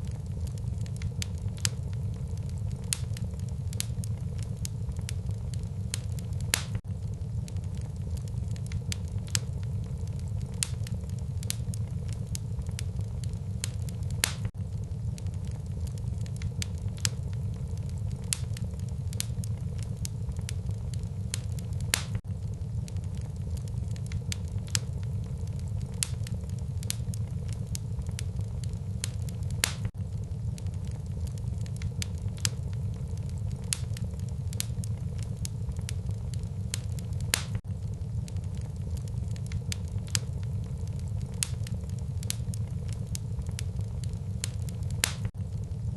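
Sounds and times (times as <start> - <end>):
low rumble of flames: 0.0 - 45.9
wood crackling and popping: 0.0 - 45.9.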